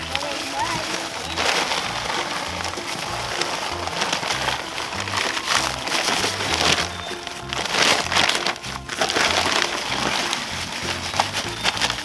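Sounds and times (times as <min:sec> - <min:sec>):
background music with bass line: 0:00.0 - 0:12.0
dry concrete mix pouring: 0:00.0 - 0:12.0.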